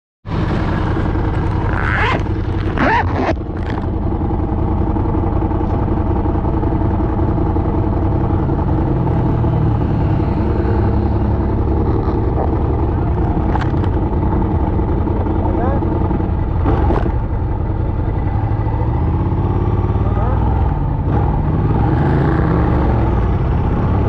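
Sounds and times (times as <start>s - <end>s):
low road rumble: 0.2s - 24.0s
vehicle engine running: 0.3s - 24.0s.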